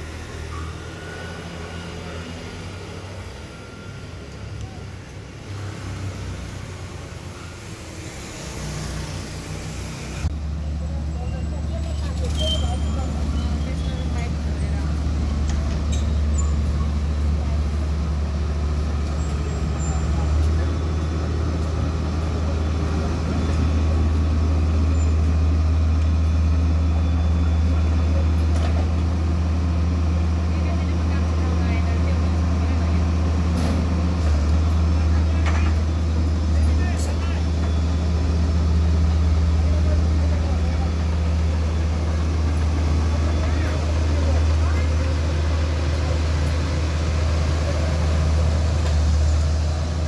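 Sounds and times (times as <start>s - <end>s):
road traffic noise: 0.0s - 50.0s.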